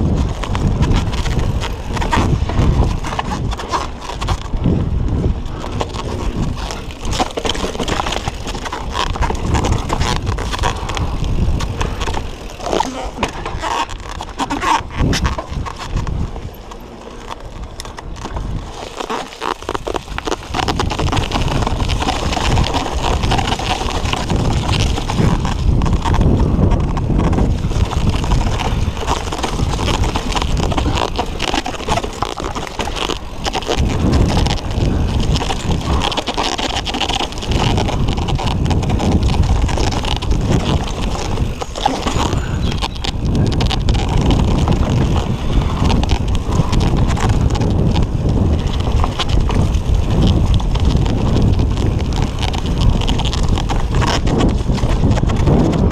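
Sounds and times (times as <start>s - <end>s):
bike rattling over bumps: 0.0s - 55.9s
bike tyres on dirt: 0.0s - 55.9s
wind rushing over microphone: 0.0s - 55.9s.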